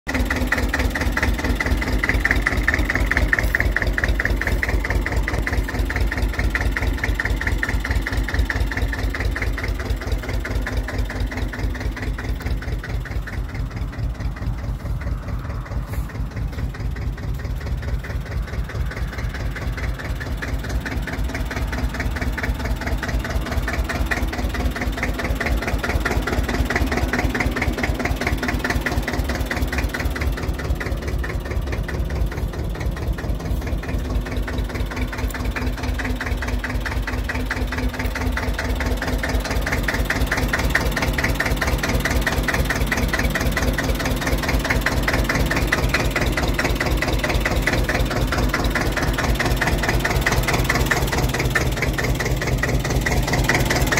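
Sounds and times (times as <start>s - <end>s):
locomotive diesel engine chugging: 0.0s - 53.9s.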